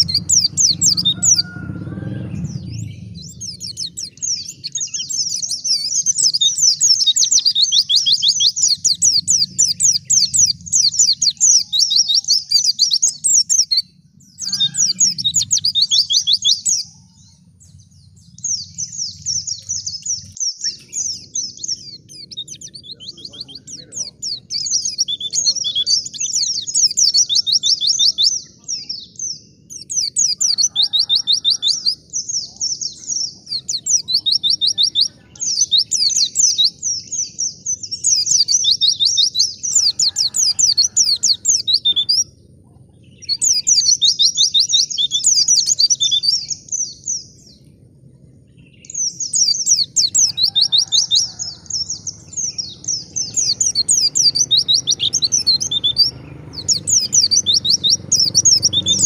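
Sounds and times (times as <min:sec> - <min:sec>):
bird twittering song: 0:00.0 - 0:59.0.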